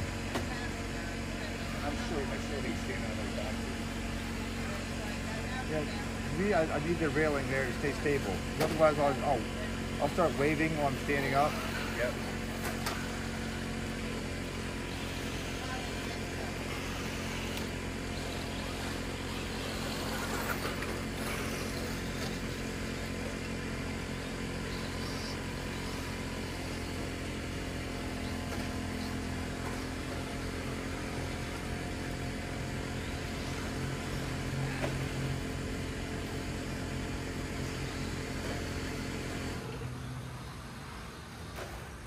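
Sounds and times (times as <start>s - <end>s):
low mechanical hum: 0.0s - 42.0s
outdoor background noise: 0.0s - 42.0s.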